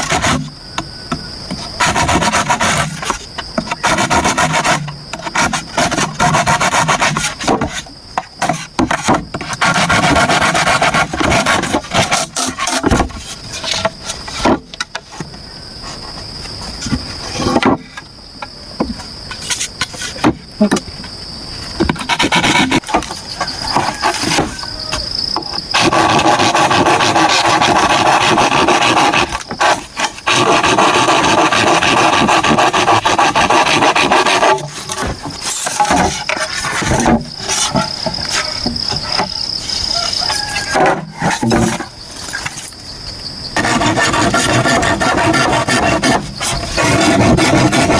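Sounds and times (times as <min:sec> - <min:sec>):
hand tool rasping wood: 0:00.0 - 0:00.5, 0:01.5 - 0:14.9, 0:21.8 - 0:42.6, 0:43.6 - 0:47.9.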